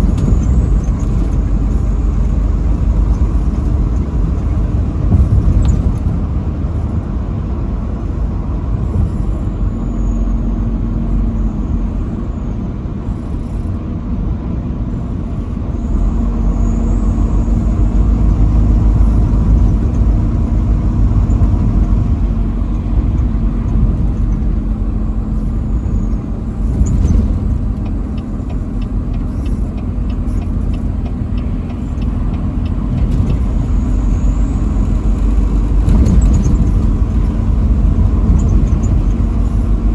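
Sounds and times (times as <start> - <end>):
truck engine and tyres rumbling: 0.0 - 39.9.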